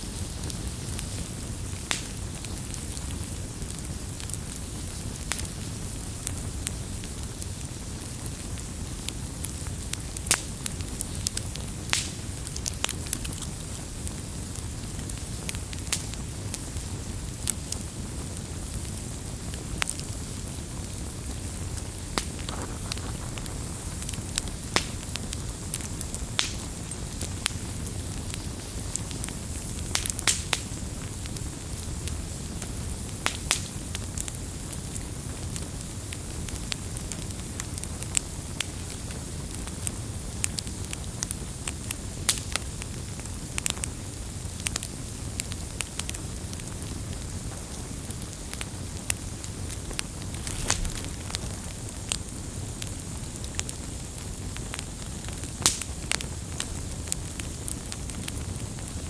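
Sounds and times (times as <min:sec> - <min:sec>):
firewood burning: 0:00.0 - 0:59.0.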